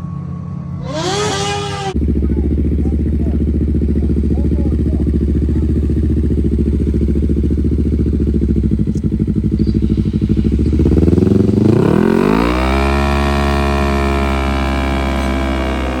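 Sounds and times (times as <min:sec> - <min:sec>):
mini bike engine revving: 0:00.8 - 0:16.0.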